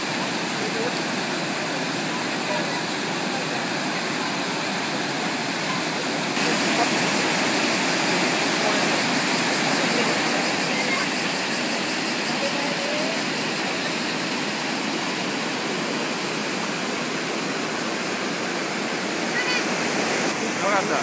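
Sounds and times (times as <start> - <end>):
river water rushing over rapids: 0.0 - 21.0.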